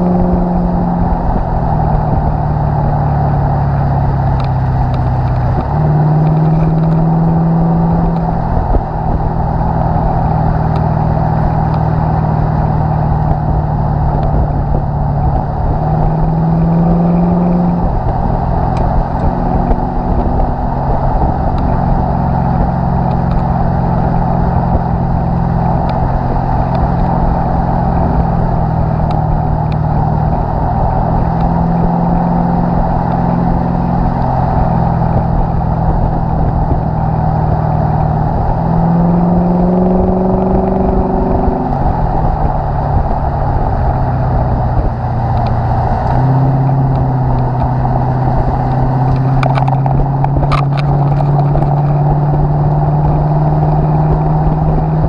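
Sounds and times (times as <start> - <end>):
car exhaust drone: 0.0 - 55.0
road and wind noise: 0.0 - 55.0.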